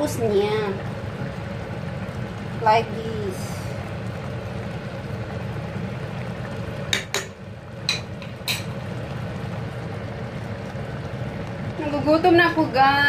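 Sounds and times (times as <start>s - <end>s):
pot simmering rumble: 0.0s - 13.0s.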